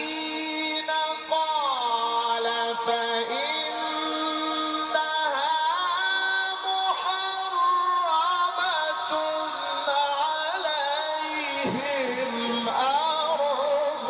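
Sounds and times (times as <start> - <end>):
man chanting through a microphone: 0.0 - 14.0.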